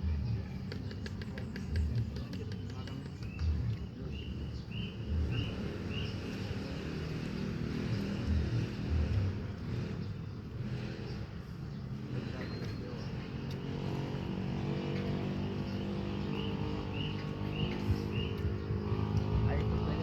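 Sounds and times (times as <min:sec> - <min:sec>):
bird chirping: 0:00.2 - 0:20.0.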